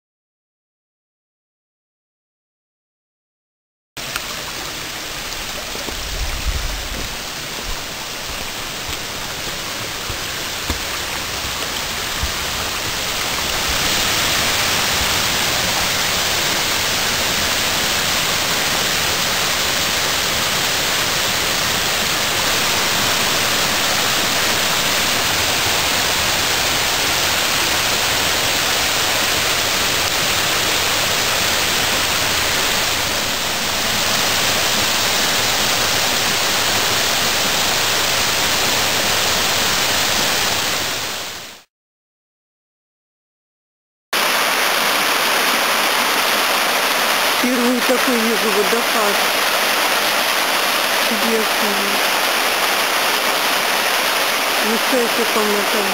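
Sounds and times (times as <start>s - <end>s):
waterfall rushing: 4.0s - 41.7s, 44.2s - 55.9s.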